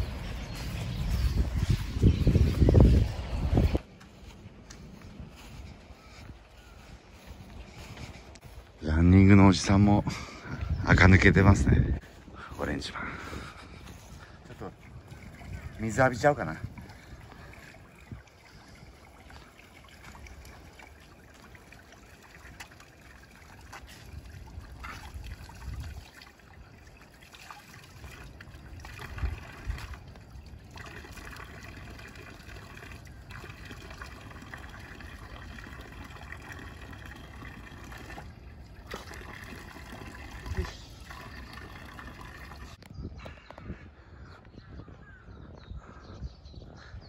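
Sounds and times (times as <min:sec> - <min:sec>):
water trickling and splashing: 0:00.0 - 0:42.9.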